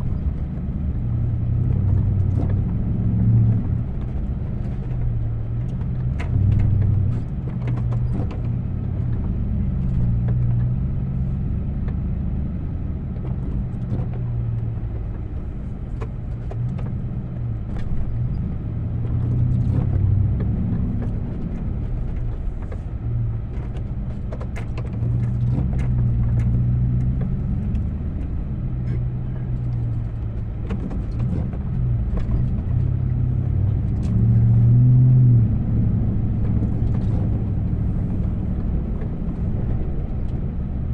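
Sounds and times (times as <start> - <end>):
vehicle engine running under load: 0.0 - 40.9.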